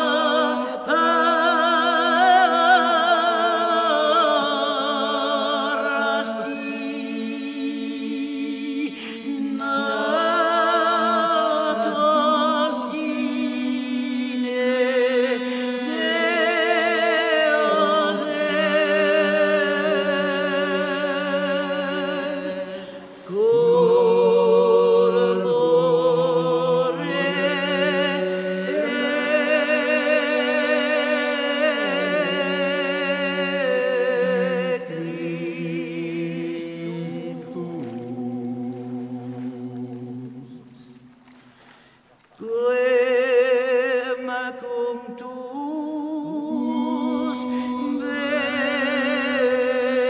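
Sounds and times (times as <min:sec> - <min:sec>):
voices singing held notes: 0:00.0 - 0:41.0, 0:45.6 - 0:50.0.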